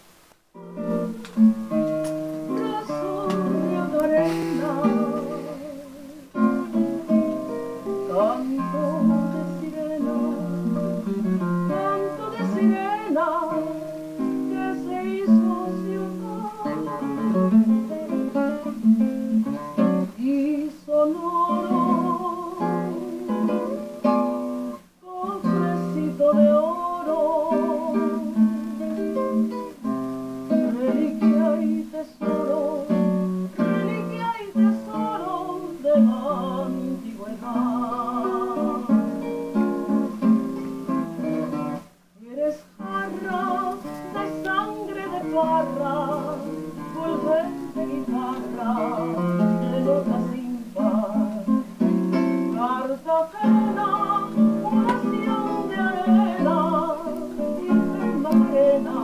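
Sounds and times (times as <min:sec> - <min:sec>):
acoustic guitar playing slow song: 0:00.0 - 0:59.0
person singing with vibrato: 0:00.6 - 0:24.2, 0:24.9 - 0:40.4, 0:41.5 - 0:59.0.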